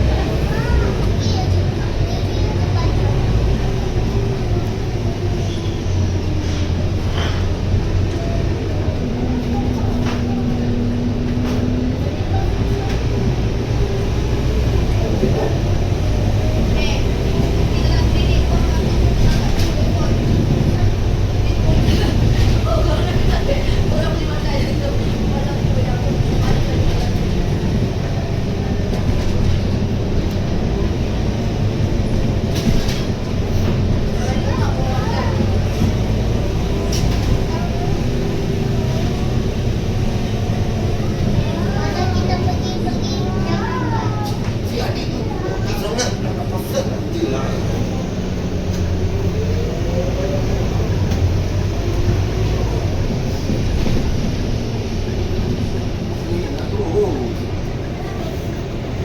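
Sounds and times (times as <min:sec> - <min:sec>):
bus engine low rumble: 0:00.0 - 0:59.0.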